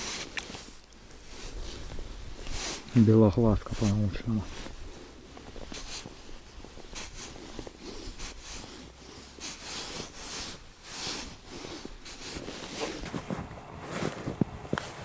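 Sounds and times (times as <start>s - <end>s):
rustling and rubbing swishes: 0.0s - 2.9s, 3.6s - 15.0s.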